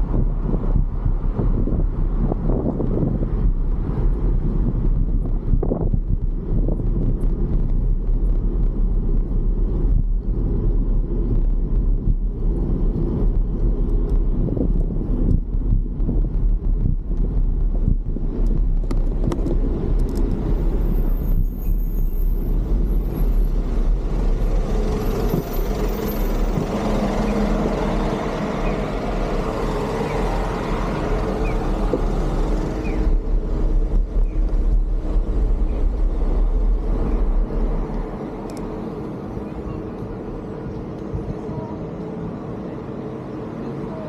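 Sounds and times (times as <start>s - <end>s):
road traffic noise: 0.0s - 44.0s
wind rumbling on microphone: 0.0s - 44.0s.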